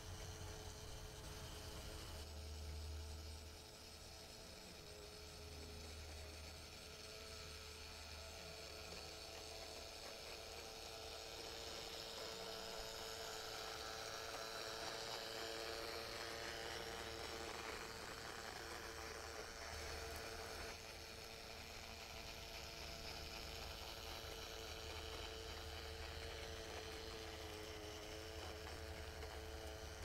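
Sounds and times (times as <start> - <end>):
model train wheels on rails: 0.0 - 30.0.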